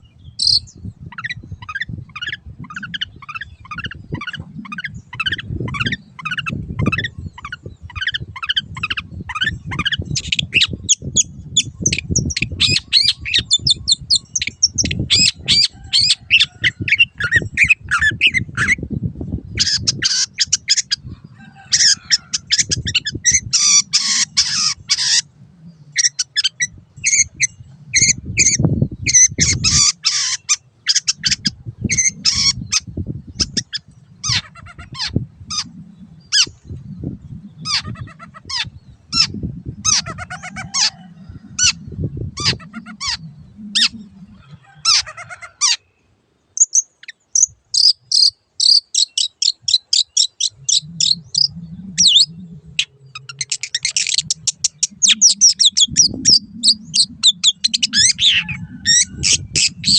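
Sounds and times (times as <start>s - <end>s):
bird harsh notes and trills: 0.0s - 59.9s.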